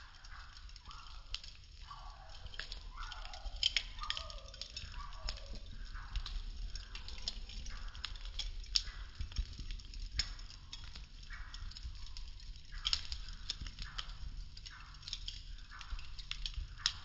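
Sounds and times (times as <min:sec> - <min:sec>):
burning wood crackling and popping: 0:00.0 - 0:17.0.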